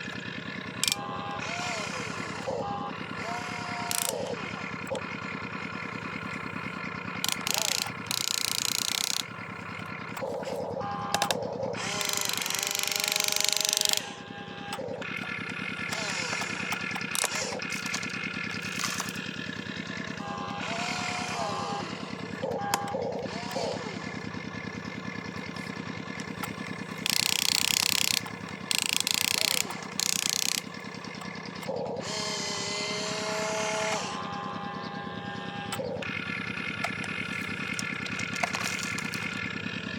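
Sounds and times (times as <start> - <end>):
steady whine: 0.0 - 39.9
toy electric motor whirring: 0.8 - 5.1, 6.0 - 24.5, 25.1 - 39.9.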